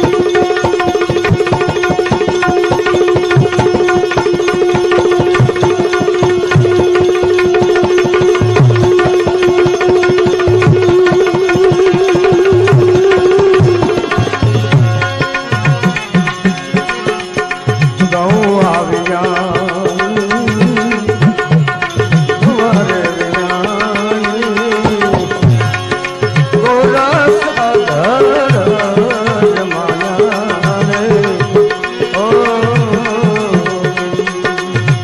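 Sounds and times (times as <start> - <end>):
hand drum beats: 0.0 - 35.0.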